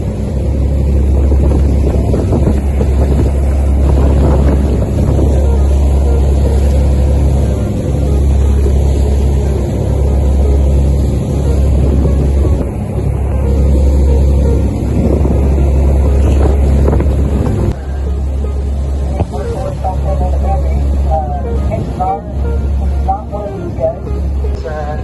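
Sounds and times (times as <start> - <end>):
boat engine droning: 0.0 - 25.0
wind on microphone: 0.0 - 25.0.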